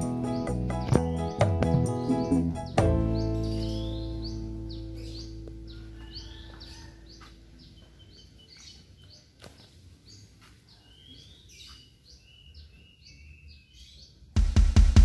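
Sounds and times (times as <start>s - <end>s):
outdoor background noise: 0.0s - 15.0s
small bird chirps: 0.3s - 14.3s.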